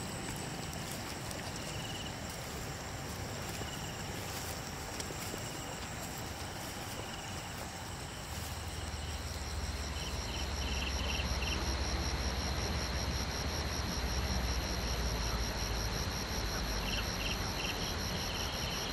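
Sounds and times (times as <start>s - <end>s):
insect chirps: 0.0s - 18.9s
insects trilling: 0.0s - 18.9s.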